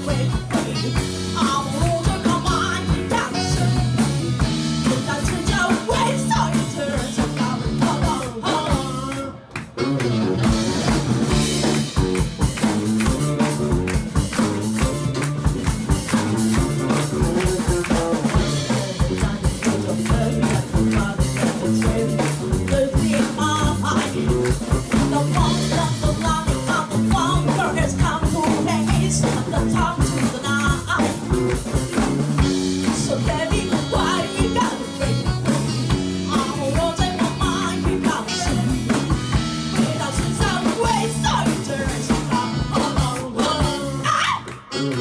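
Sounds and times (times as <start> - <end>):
drum kit beat with rimshots: 0.0 - 45.0
electric guitar and bass: 0.0 - 45.0
melodic guitar lead line: 0.0 - 45.0.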